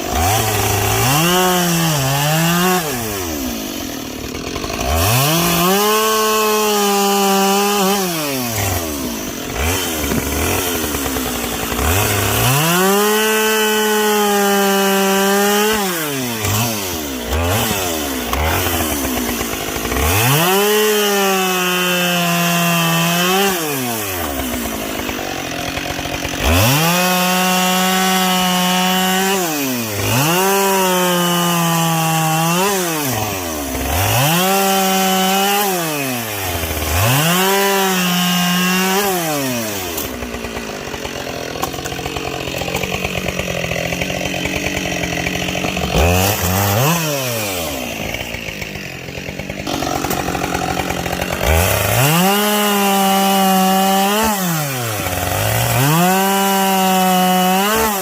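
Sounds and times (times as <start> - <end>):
chainsaw cutting logs: 0.0 - 58.0.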